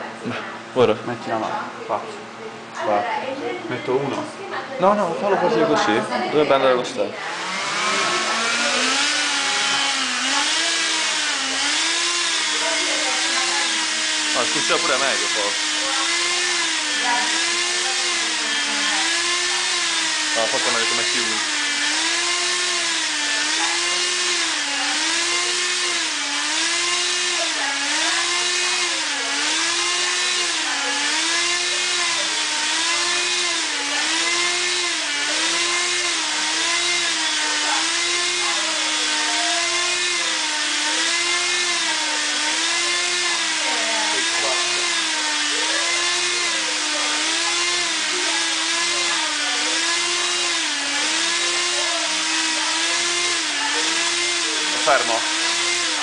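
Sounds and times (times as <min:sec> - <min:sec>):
electric propeller motors whining: 0:02.7 - 0:56.0.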